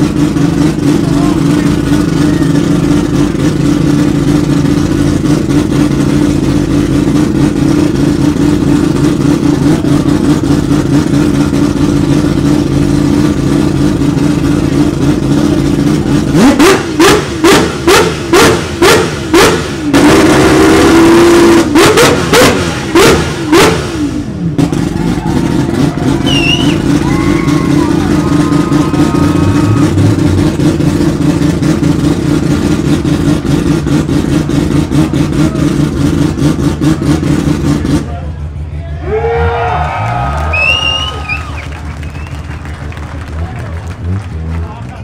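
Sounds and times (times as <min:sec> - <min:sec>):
rotary engine idling and revving: 0:00.0 - 0:45.0.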